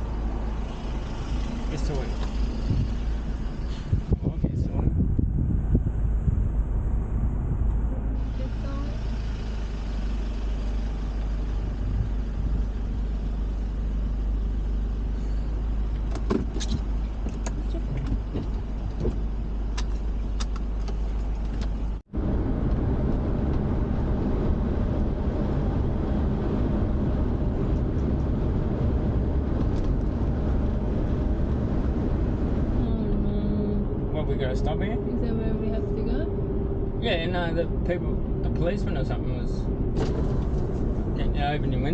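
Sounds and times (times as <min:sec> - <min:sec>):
van engine and road noise: 0:00.0 - 0:41.9.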